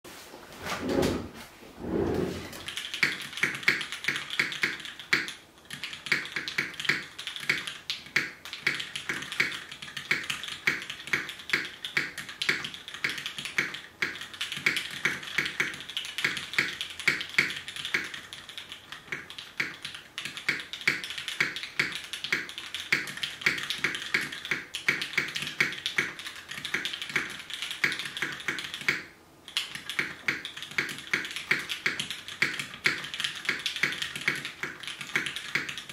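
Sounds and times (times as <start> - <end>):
mechanical keyboard typing: 2.6 - 35.9.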